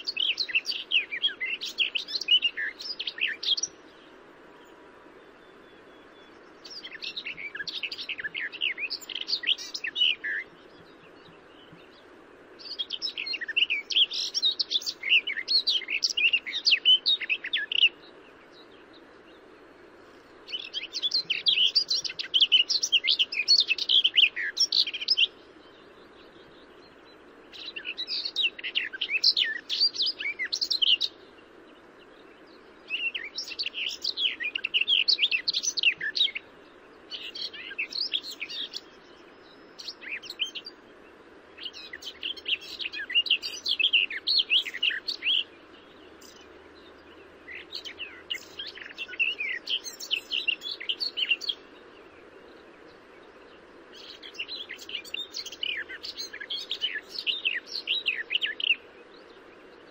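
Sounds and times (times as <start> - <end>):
bird twittering song: 0.0 - 59.9
faint low hiss: 0.0 - 59.9.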